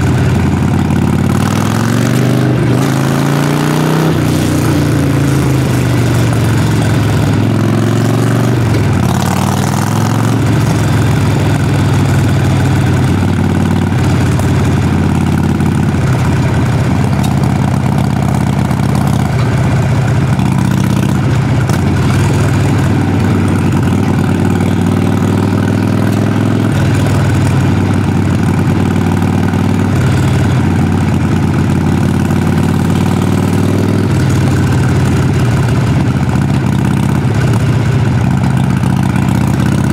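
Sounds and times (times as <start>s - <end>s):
motorcycle exhaust rumbling: 0.0s - 39.9s.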